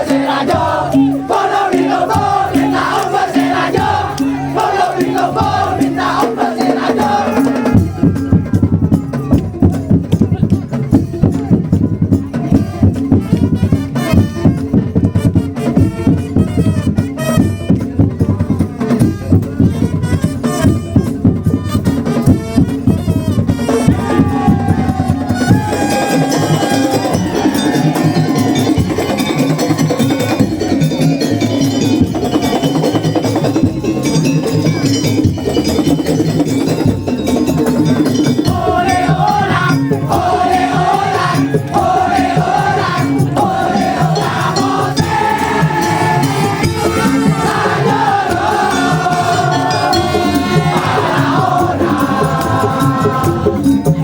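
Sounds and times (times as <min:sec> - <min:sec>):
fast percussion rhythm: 0:00.0 - 0:54.0.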